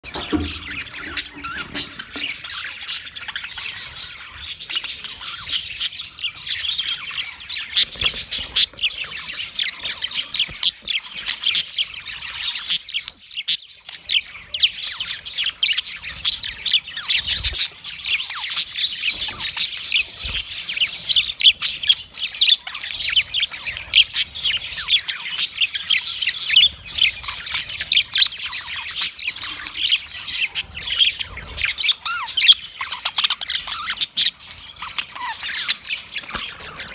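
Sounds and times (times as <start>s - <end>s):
budgerigars chattering: 0.1s - 36.9s.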